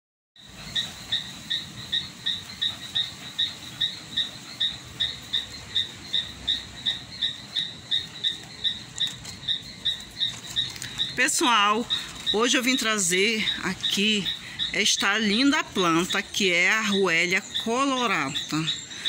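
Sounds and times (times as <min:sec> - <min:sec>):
insect chirping: 0:00.4 - 0:19.0.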